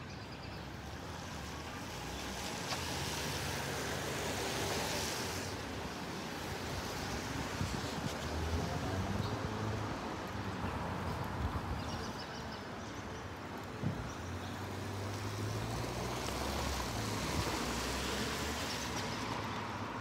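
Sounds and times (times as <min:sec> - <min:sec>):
tyres hissing on wet pavement: 0:00.9 - 0:11.3, 0:13.9 - 0:20.0.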